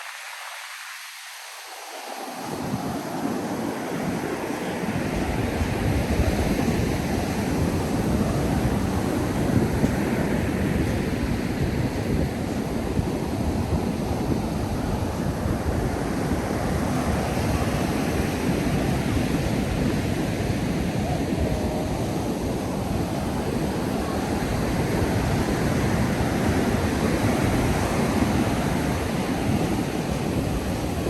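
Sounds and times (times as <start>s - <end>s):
ocean surf on sandy beach: 0.0s - 31.0s
wind rumbling on microphone: 2.0s - 31.0s.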